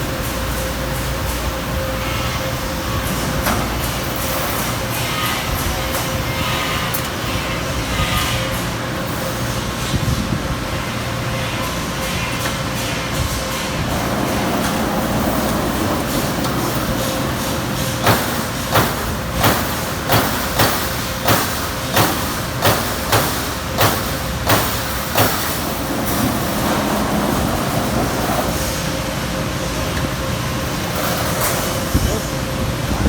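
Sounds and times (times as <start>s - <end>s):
punch machine humming: 0.0s - 33.0s.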